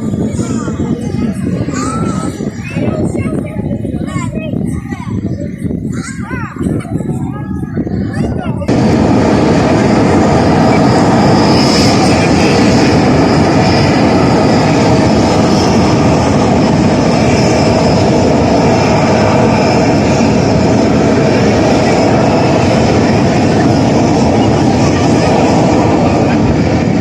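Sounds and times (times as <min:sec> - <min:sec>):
aircraft engine noise: 0:00.0 - 0:27.0.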